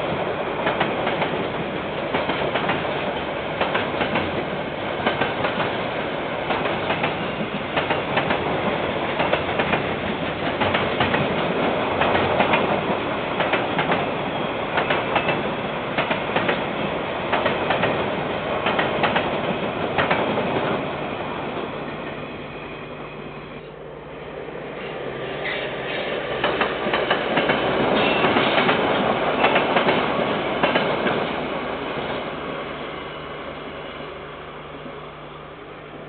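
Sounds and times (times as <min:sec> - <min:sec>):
train wagons rumbling: 0:00.0 - 0:22.3, 0:24.8 - 0:32.5.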